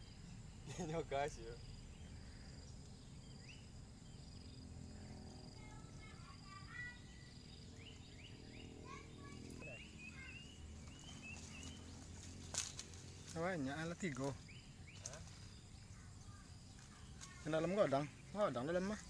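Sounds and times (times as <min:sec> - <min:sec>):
bird chirps: 0:00.0 - 0:19.0
high insect drone: 0:00.0 - 0:19.0.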